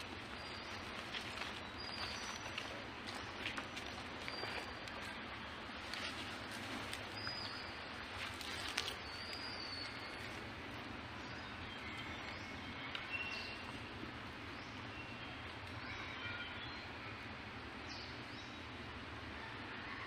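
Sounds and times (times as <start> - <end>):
birds chirping: 0.0 - 20.0
steady background hiss: 0.0 - 20.0.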